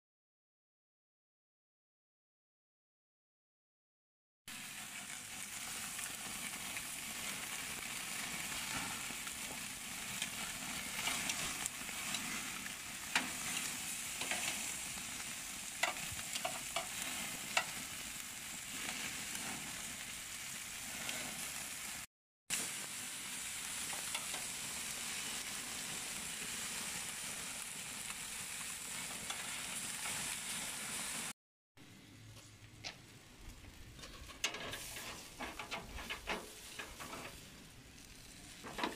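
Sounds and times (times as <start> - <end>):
meat sizzling on grill: 4.5 - 31.4, 33.3 - 38.9.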